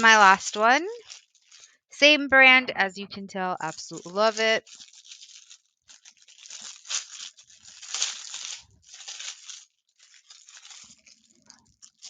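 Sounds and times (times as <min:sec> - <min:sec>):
packaging crinkling and tearing: 0:00.0 - 0:01.8, 0:03.6 - 0:12.0.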